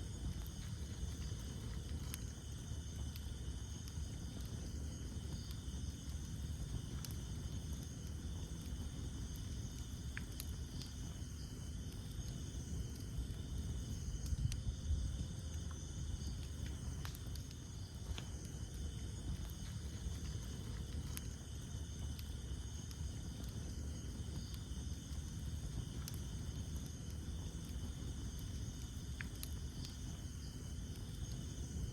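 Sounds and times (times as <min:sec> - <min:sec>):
campfire crackles and pops: 0:00.0 - 0:31.9
low rumble of flames: 0:00.0 - 0:31.9
night insects chirring: 0:00.0 - 0:31.9.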